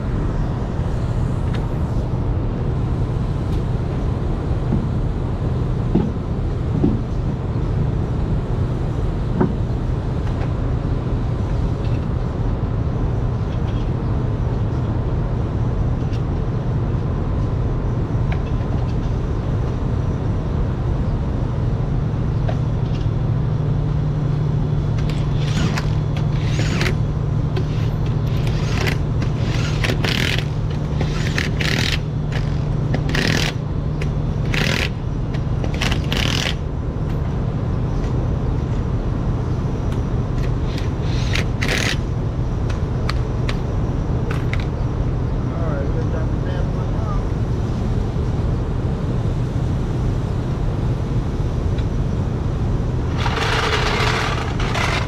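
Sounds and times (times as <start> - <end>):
low machine drone: 0.0 - 55.0.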